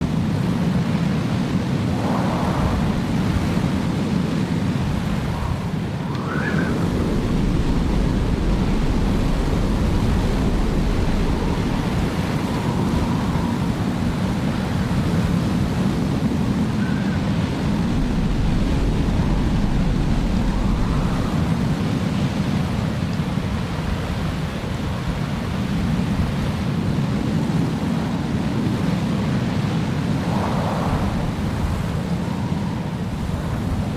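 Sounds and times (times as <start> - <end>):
howling gusts: 0.0 - 33.9
strong wind blowing: 0.0 - 33.9.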